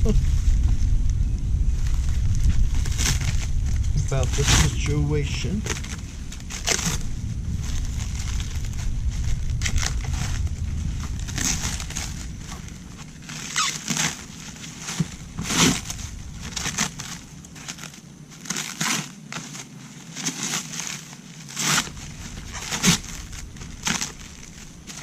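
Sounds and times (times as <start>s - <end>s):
hand scrapes and rustles: 1.7s - 25.0s.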